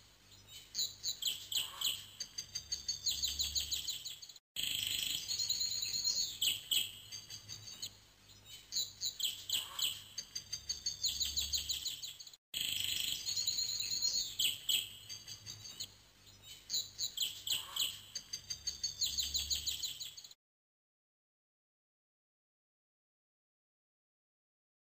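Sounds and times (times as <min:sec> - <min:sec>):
birds chirping and trilling: 0:00.0 - 0:20.4.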